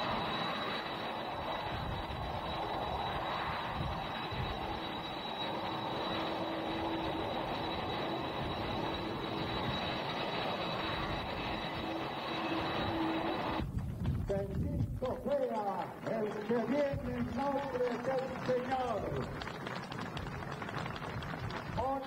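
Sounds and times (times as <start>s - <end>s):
jet engines running with whine: 0.0s - 22.0s.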